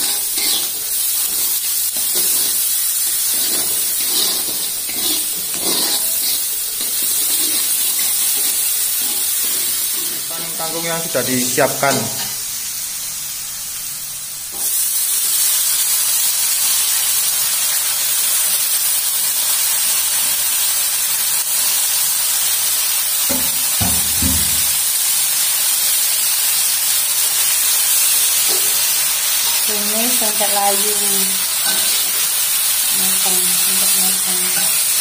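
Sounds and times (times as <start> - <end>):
greens sizzling in hot oil: 0.0 - 35.0.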